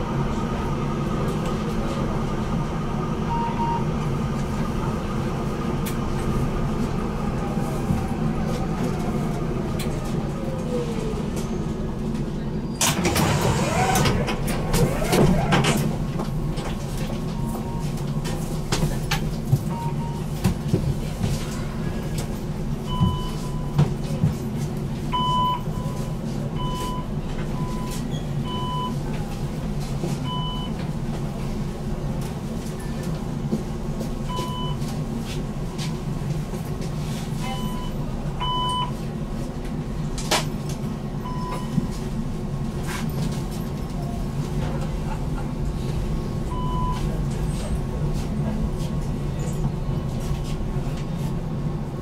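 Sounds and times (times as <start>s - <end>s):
tram electrical hum: 0.0s - 52.0s.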